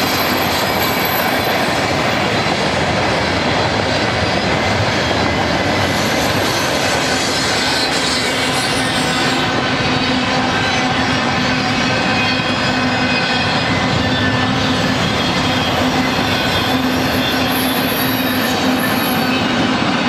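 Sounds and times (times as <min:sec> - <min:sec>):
high wheel squeal: 0:00.0 - 0:02.6, 0:04.4 - 0:20.0
freight cars rumbling on rails: 0:00.0 - 0:20.0.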